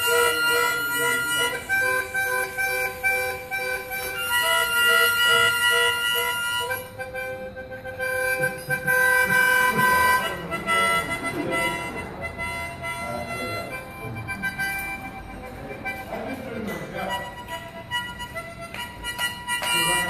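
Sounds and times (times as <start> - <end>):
wind instrument long held notes: 0.0 - 20.0.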